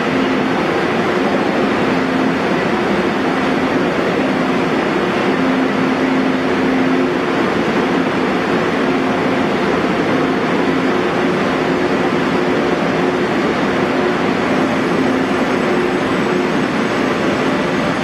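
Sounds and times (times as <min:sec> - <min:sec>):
passenger train running: 0:00.0 - 0:18.0.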